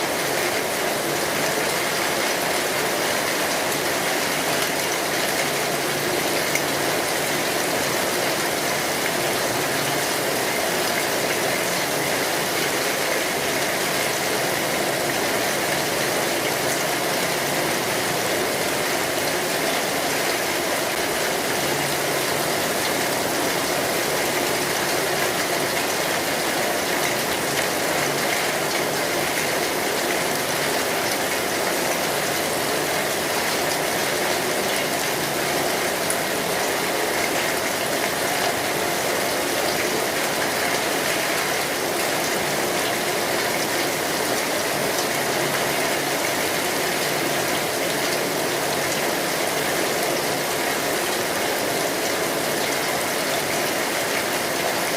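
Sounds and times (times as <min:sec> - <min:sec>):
rain drumming on metal roof: 0:00.0 - 0:54.9.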